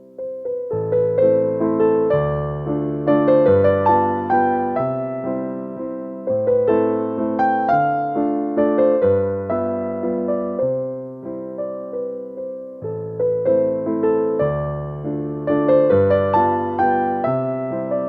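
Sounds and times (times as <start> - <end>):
slow gentle piano piece: 0.0 - 18.0.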